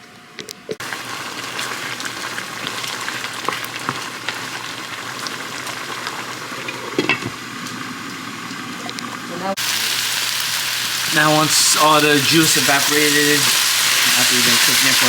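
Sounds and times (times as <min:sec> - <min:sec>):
chicken frying in oil: 0:00.8 - 0:15.0.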